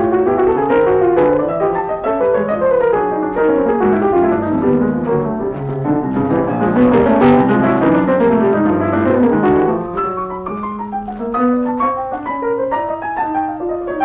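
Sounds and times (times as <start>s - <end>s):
piano: 0.0s - 14.0s.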